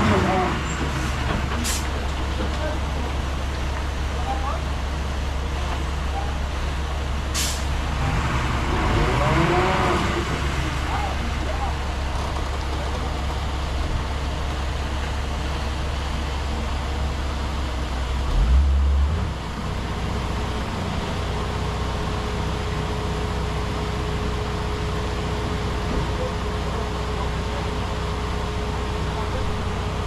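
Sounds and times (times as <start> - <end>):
diesel engine droning: 0.0 - 30.0.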